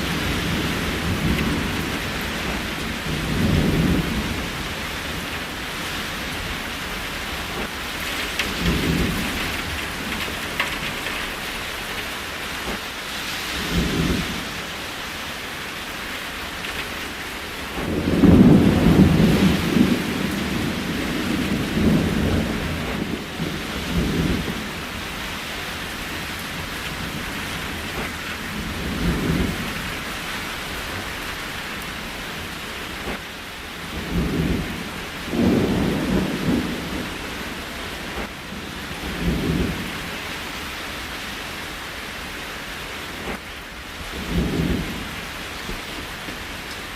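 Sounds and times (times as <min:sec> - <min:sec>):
thunder rumbling: 0:00.0 - 0:14.8, 0:16.6 - 0:40.4, 0:43.1 - 0:46.9
steady rain: 0:00.0 - 0:46.9.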